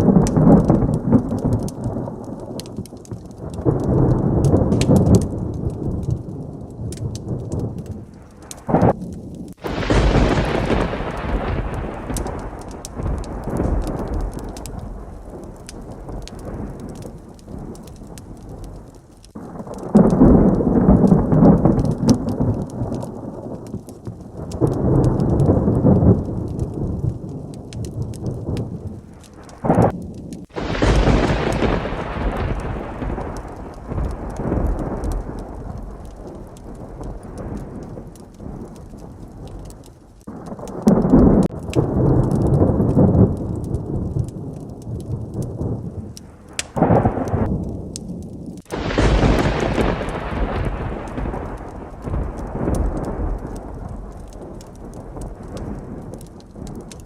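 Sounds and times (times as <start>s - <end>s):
heavy rain: 0.0s - 57.0s
rolling thunder: 0.0s - 57.0s
sharp thunderclap: 0.0s - 57.0s.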